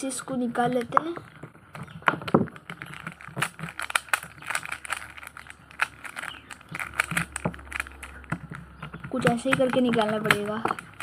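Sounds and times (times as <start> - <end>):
plastic puzzle cube clicking: 0.2 - 11.0.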